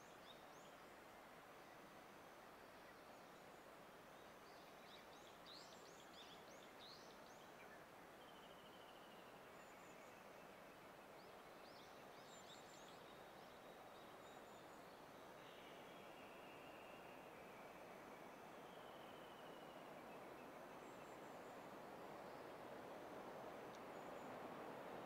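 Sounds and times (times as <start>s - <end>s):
songbird singing: 2.8s - 25.0s.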